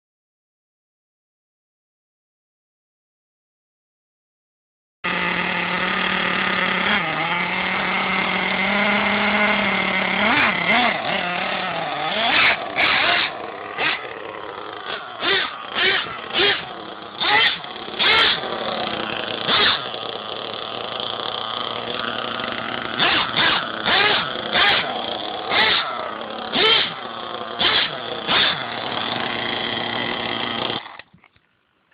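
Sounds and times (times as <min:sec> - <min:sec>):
small nitro engine idling and revving: 0:05.0 - 0:31.9.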